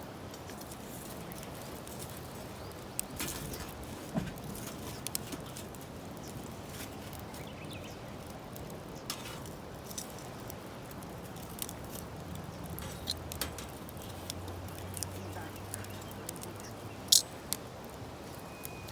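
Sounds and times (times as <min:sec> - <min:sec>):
bonfire crackling and popping: 0:00.0 - 0:18.9.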